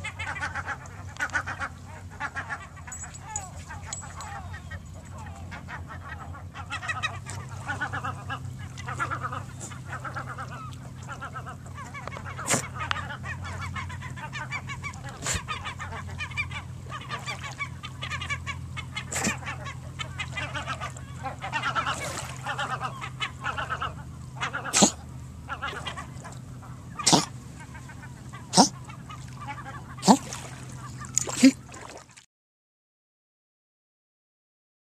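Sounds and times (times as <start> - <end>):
water birds honking: 0.0 - 32.2.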